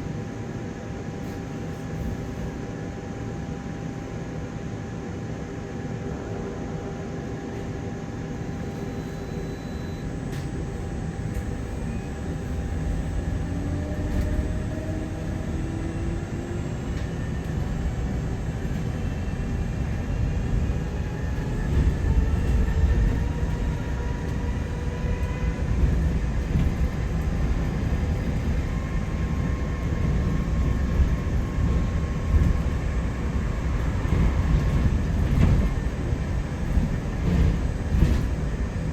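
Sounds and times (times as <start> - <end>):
bus engine rumbling and whining: 0.0 - 38.9.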